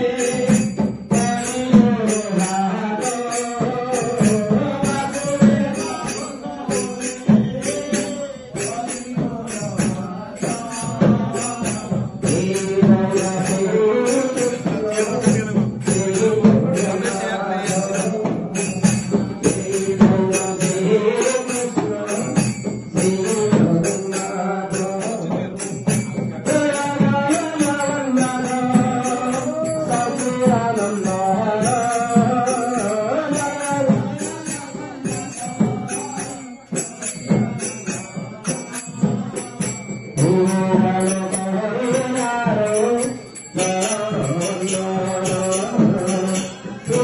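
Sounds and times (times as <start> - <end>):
group chanting a melody: 0.0 - 47.0
jingling percussion beat: 0.0 - 47.0.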